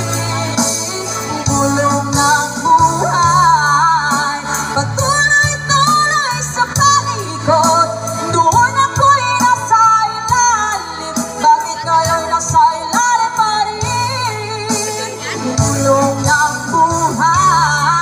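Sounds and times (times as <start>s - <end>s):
backing music through speakers: 0.0s - 18.0s
woman singing into a microphone: 0.0s - 18.0s.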